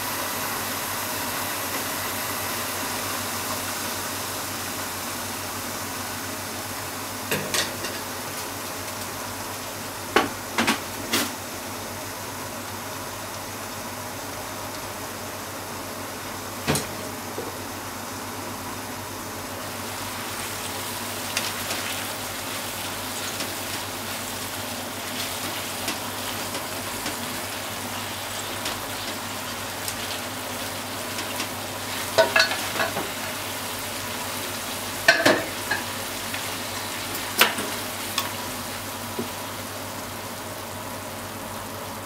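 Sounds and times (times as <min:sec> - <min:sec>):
stir-fry sizzling in frying pan: 0:00.0 - 0:42.0.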